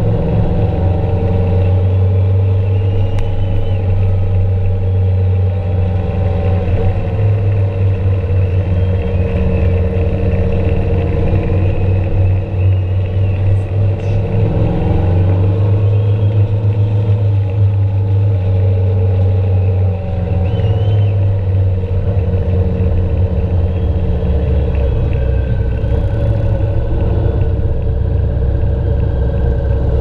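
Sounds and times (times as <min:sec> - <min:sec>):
vehicle engine drone: 0:00.0 - 0:30.0.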